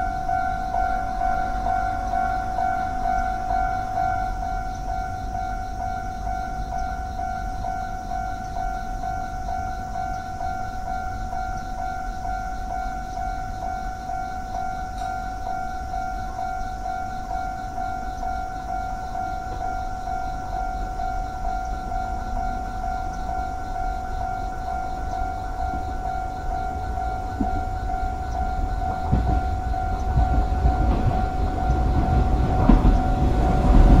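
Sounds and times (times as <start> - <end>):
railroad crossing bell ringing: 0.0 - 34.0.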